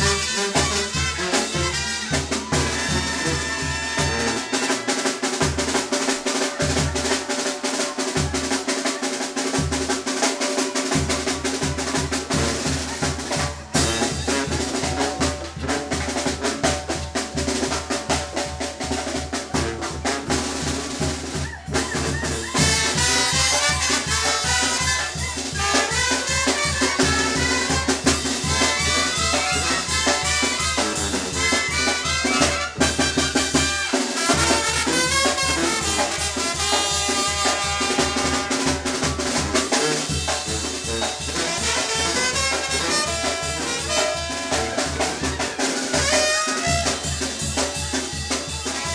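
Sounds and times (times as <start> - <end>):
drum kit beating: 0.0 - 48.9
live dance band playing: 0.0 - 48.9
trumpets playing: 0.0 - 48.9.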